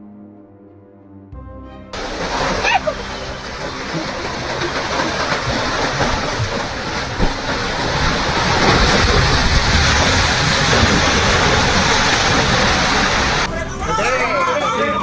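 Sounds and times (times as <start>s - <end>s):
loud rushing roar: 2.0s - 14.3s.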